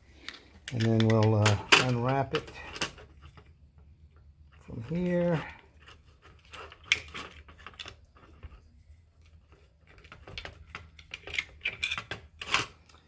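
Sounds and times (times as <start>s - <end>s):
plastic clicks and rustles: 0.2s - 8.6s, 9.2s - 13.0s.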